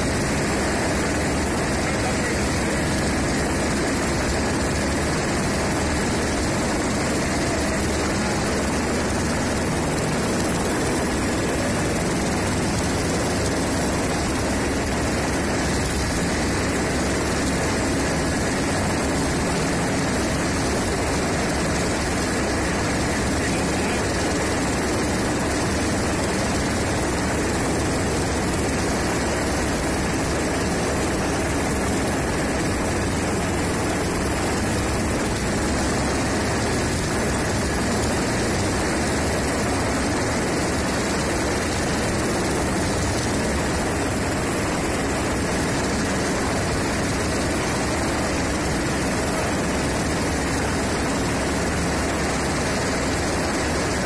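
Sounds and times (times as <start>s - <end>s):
constant high whine: 0.0s - 54.0s
rotorcraft propellers and motors: 0.0s - 54.0s.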